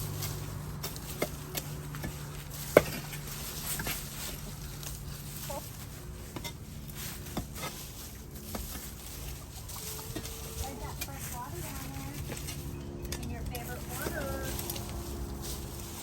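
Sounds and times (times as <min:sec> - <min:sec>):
digging tool scraping soil: 0:00.0 - 0:16.0.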